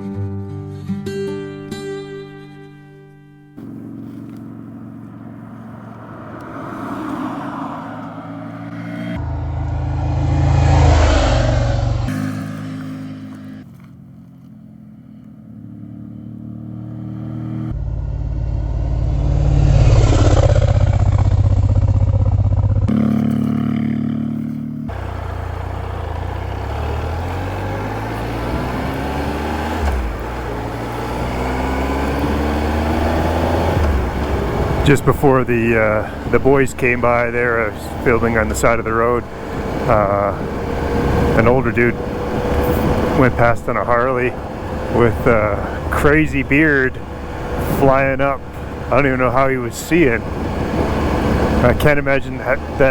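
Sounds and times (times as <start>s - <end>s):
motorcycles riding past: 3.6s - 52.9s.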